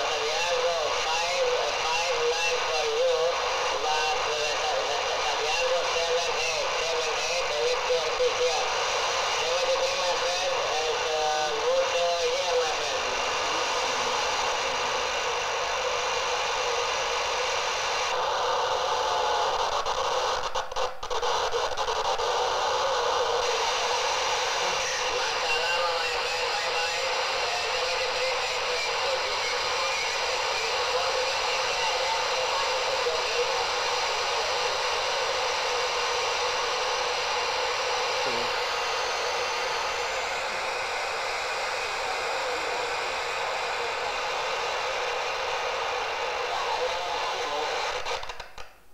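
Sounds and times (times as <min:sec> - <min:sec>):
radio receiver static hiss: 0:00.0 - 0:48.9.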